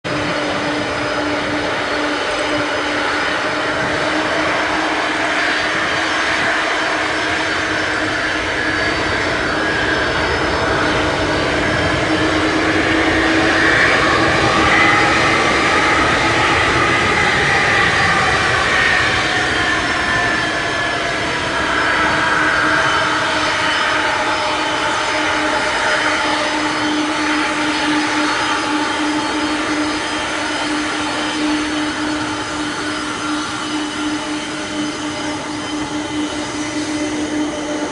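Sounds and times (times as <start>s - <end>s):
jet plane taking off: 0.0s - 37.9s.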